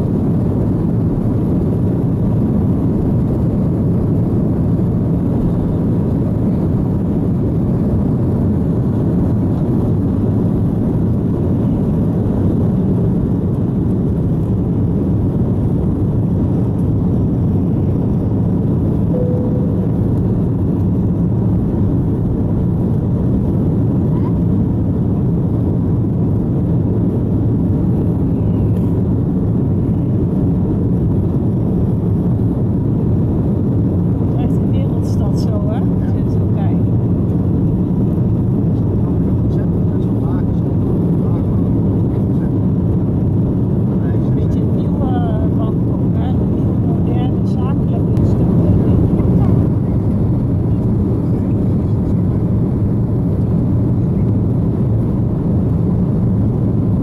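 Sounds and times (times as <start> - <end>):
jet engines deep rumble: 0.0 - 57.0.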